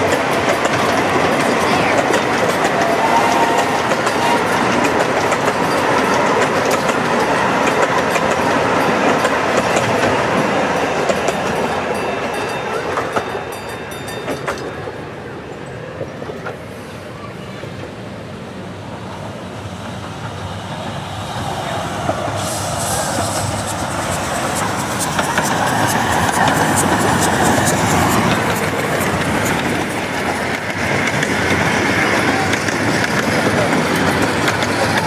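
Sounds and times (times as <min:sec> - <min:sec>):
train wheels clicking over rail joints: 0:00.0 - 0:14.8, 0:19.6 - 0:35.0.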